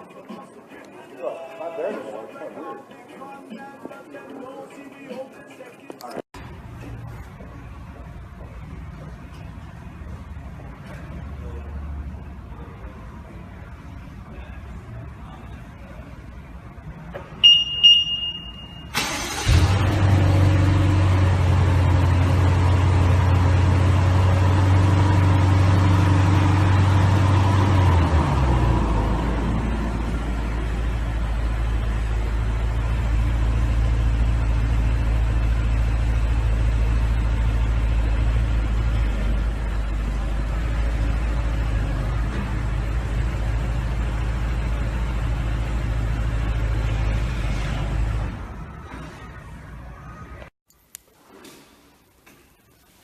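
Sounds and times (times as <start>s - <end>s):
car engine starting and idling: 6.4s - 50.5s.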